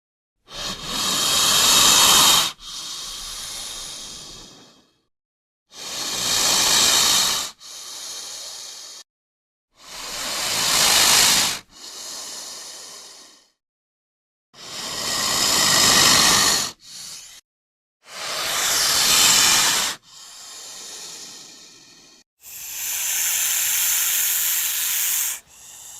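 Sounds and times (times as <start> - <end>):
snake hissing: 0.5 - 5.0, 5.7 - 9.0, 9.8 - 13.6, 14.6 - 17.4, 18.0 - 25.9.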